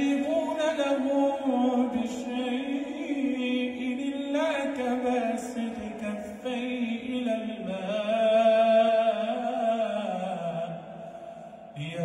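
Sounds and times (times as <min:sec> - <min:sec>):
man chanting melodically: 0:00.0 - 0:10.9, 0:11.6 - 0:12.0.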